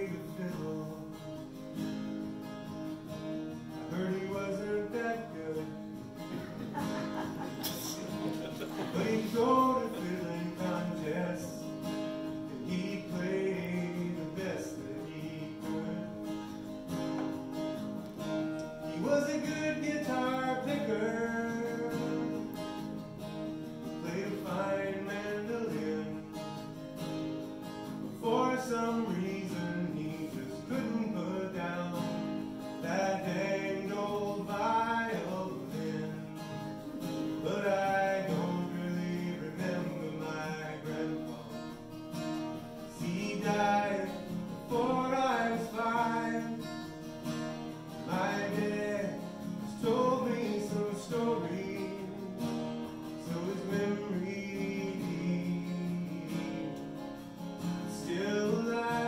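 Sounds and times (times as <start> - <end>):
acoustic guitar melody: 0.0 - 59.0.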